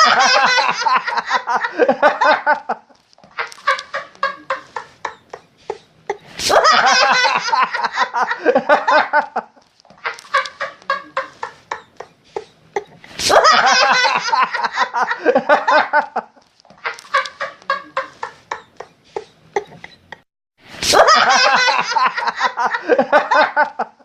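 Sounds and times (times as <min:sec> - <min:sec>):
hysterical human laughter: 0:00.0 - 0:20.2, 0:20.8 - 0:24.0.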